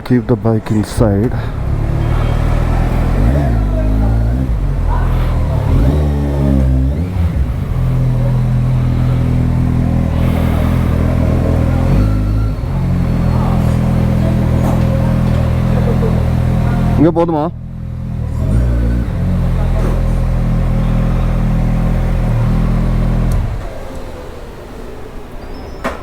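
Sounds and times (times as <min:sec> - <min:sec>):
motorcycle engine running at low revs: 0:01.3 - 0:24.4.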